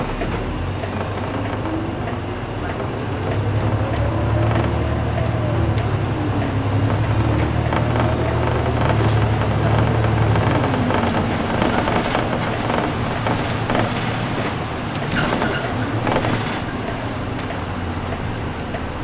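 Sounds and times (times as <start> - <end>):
bus engine hum: 0.0 - 19.0
road noise: 0.0 - 19.0.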